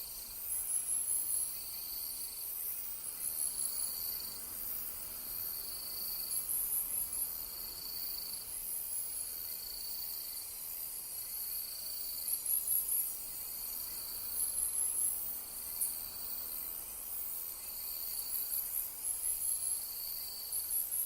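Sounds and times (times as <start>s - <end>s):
crickets trilling: 0.0s - 21.0s
insect pulsed chirping: 0.0s - 21.0s.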